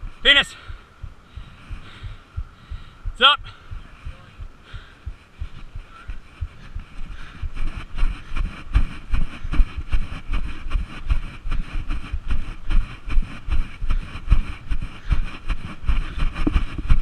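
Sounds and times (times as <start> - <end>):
running footsteps thudding: 0.0 - 17.0
wind noise: 0.0 - 17.0.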